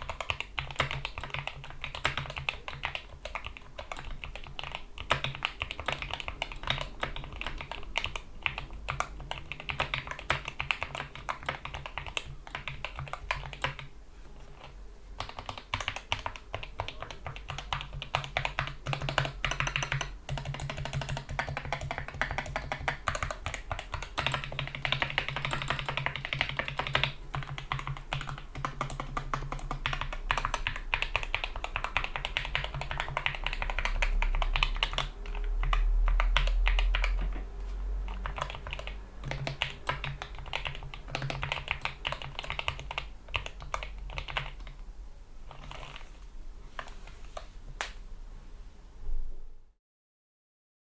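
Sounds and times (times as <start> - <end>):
mechanical keyboard typing: 0.0 - 13.9, 14.5 - 44.8, 45.4 - 46.2.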